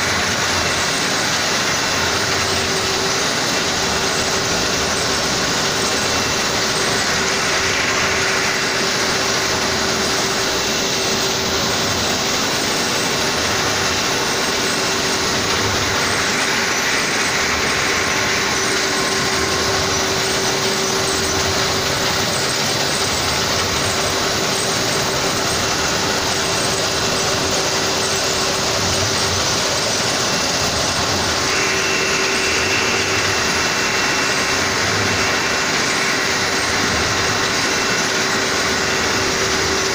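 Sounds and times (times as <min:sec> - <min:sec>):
industrial machine noise: 0:00.0 - 0:39.9.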